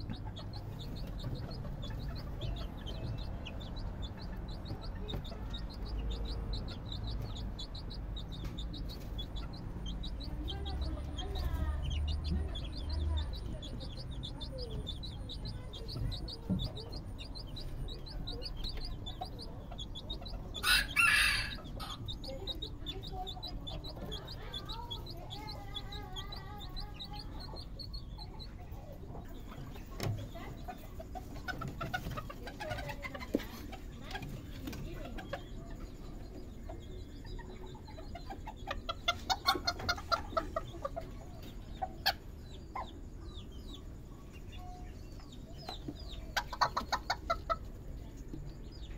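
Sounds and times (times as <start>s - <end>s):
chicken clucks: 0.0s - 48.9s
chickens calling: 0.0s - 48.9s
high peeping: 0.0s - 48.9s.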